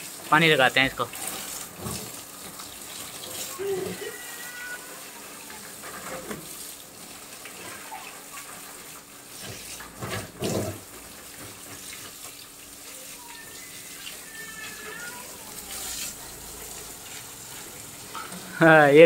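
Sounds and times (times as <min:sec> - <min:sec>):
running water splashing: 0:00.0 - 0:19.0.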